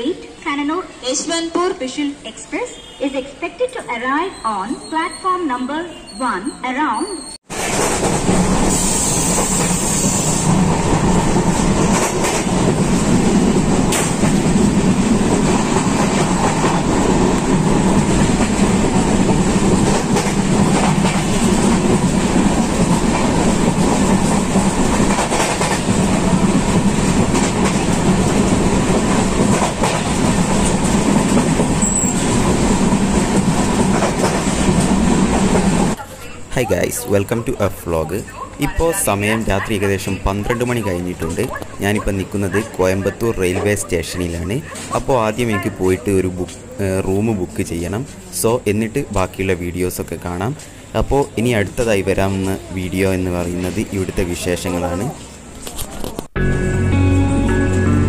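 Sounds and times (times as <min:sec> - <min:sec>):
train coach running on track: 0:07.2 - 0:56.2.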